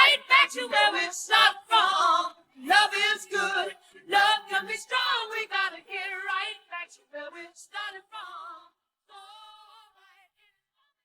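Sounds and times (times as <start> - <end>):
women singing disco vocals: 0.0 - 10.3.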